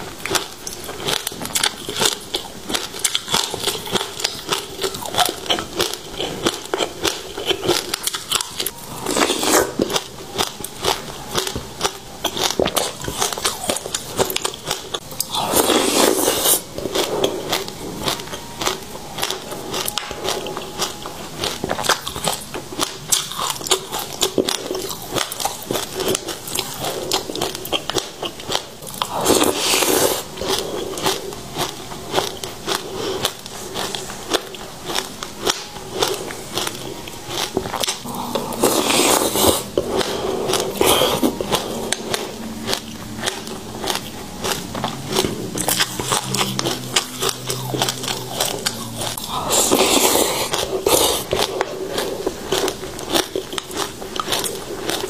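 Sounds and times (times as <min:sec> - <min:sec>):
chewing crunchy seeds: 0:00.0 - 0:55.0.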